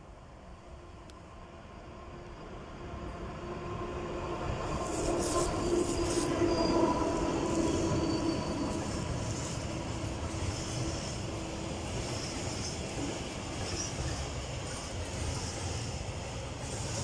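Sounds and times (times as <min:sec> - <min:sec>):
freight train passing: 0:00.0 - 0:17.0
locomotive whine: 0:00.6 - 0:17.0.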